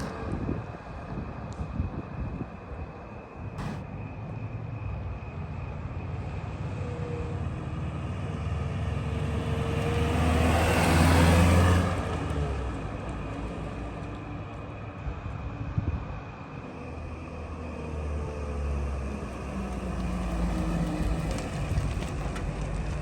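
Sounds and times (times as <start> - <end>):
pickup truck driving past: 3.4 - 15.5, 16.6 - 23.0.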